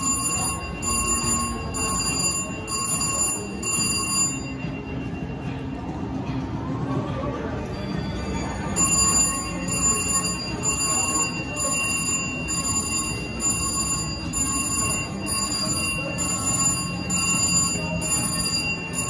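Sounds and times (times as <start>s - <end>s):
slot machine electronic ringing: 0.0s - 5.4s, 7.7s - 19.0s
casino background murmur: 0.0s - 19.0s.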